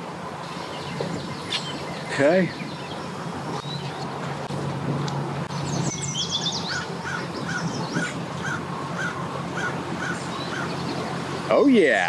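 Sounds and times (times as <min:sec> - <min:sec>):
birds calling: 0:00.3 - 0:12.0.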